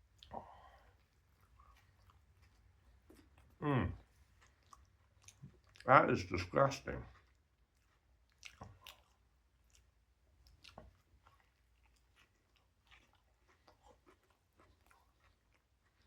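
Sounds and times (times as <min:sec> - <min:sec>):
chewing with wet mouth clicks: 0:00.0 - 0:05.9, 0:07.0 - 0:16.0.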